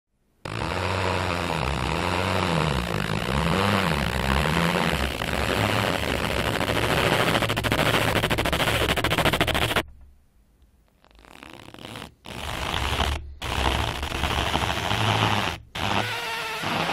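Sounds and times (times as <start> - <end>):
rubber squeaks and creaks: 0.4 - 9.9, 10.9 - 16.9.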